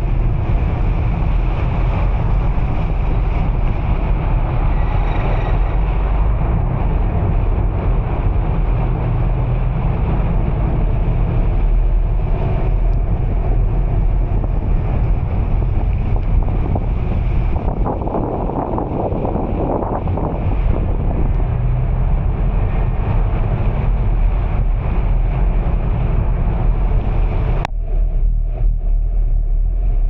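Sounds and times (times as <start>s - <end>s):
vehicle noise: 0.0s - 30.0s
wind buffeting microphone: 0.0s - 30.0s.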